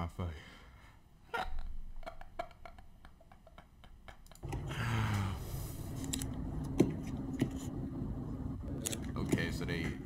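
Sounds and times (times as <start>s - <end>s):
low hum with hiss: 1.3s - 10.0s.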